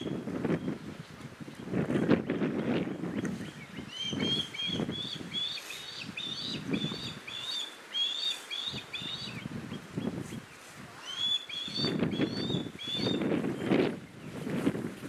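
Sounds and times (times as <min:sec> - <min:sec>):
bird chicks chirping: 0:02.0 - 0:14.2.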